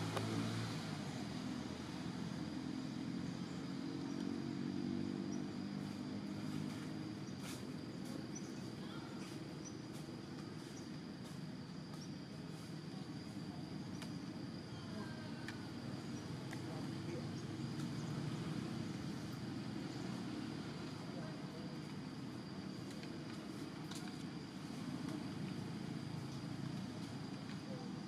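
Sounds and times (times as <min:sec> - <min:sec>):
high insect drone: 0:00.0 - 0:28.0
low engine-like hum: 0:00.0 - 0:28.0.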